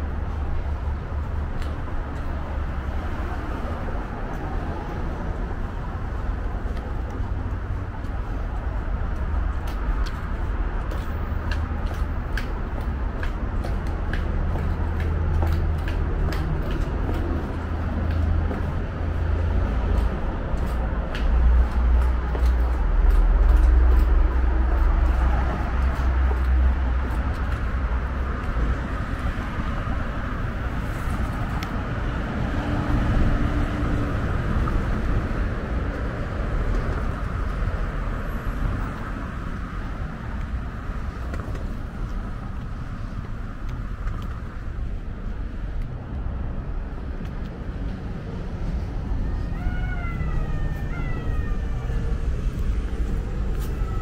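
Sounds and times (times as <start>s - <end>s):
passing cars: 0.0s - 54.0s.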